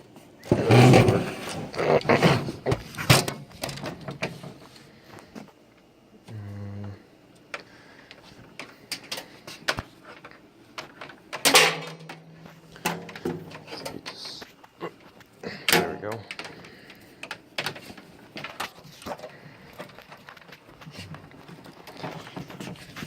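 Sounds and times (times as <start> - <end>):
computer parts and cables clattering: 0.4 - 5.4, 7.4 - 23.0.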